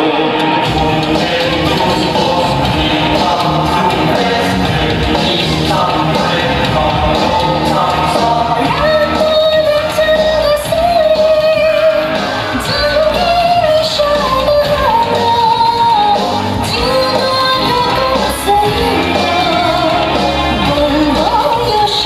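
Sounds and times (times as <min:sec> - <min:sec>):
band backing music: 0:00.0 - 0:22.0.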